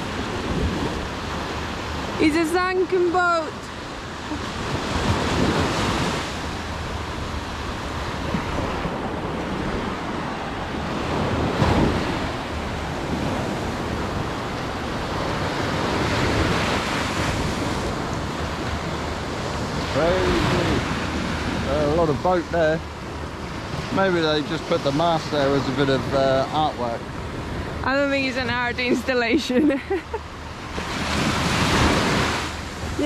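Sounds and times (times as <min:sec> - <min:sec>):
waves washing up a sandy beach: 0:00.0 - 0:33.0
wind buffeting the microphone: 0:00.0 - 0:33.0.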